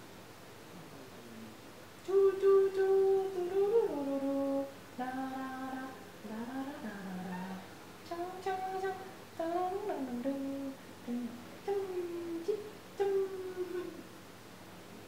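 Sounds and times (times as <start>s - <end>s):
person humming a slow tune: 1.4s - 14.1s.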